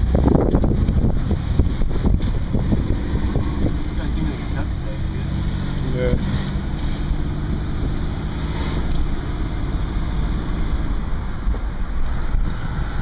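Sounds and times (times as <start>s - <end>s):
engine and road rumble: 0.0s - 13.0s
wind noise: 0.0s - 13.0s.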